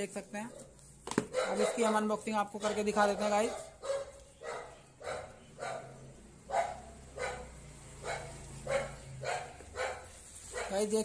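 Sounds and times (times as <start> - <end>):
dog barking: 1.3 - 10.9.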